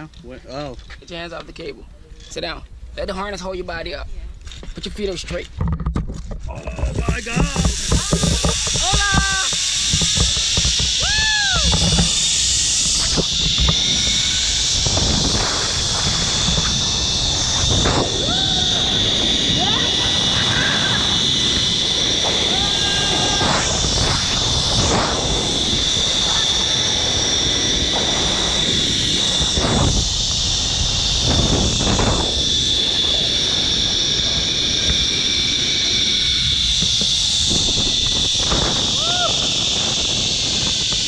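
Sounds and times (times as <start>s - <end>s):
wind buffeting microphone: 5.0s - 41.0s
zipline pulleys whirring on cable: 6.6s - 41.0s.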